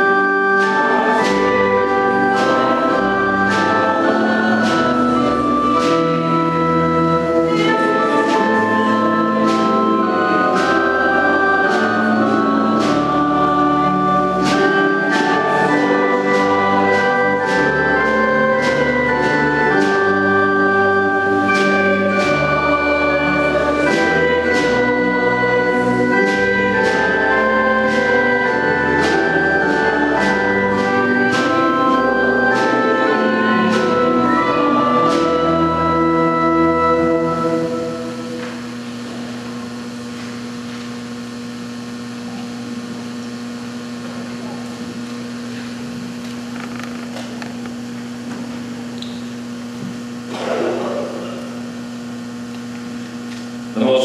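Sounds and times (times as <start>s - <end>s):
organ playing held chords: 0.0s - 54.0s.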